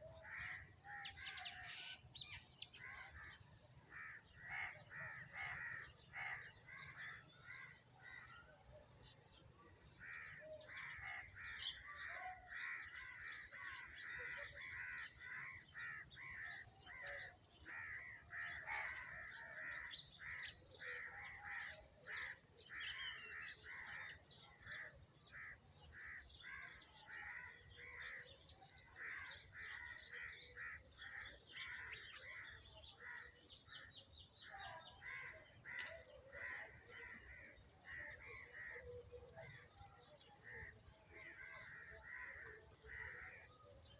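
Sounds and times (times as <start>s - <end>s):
sparrows chirping: 0.0s - 43.9s.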